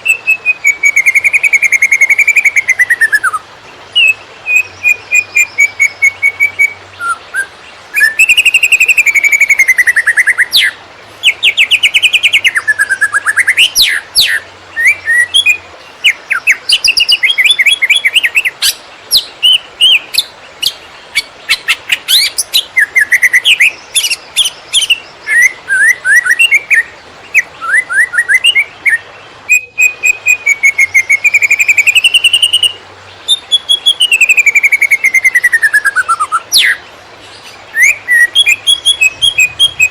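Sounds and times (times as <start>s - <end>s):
bird singing whistles and trills: 0.0s - 3.4s, 4.0s - 39.9s.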